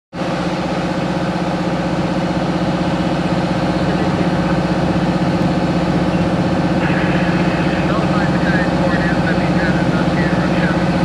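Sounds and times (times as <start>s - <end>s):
truck engine running: 0.2s - 11.0s.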